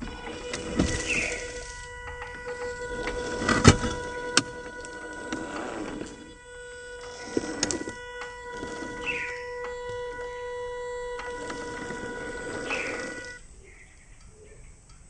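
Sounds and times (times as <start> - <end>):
electric motor and gears whining: 0.0 - 13.4.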